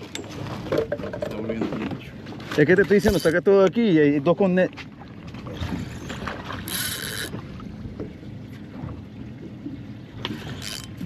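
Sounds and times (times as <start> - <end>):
water against hull: 0.0 - 11.0.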